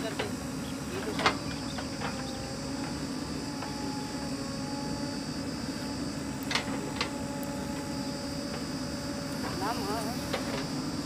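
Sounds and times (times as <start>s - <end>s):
diesel engine running under load: 0.0s - 11.0s
thin steady whine: 0.0s - 11.0s.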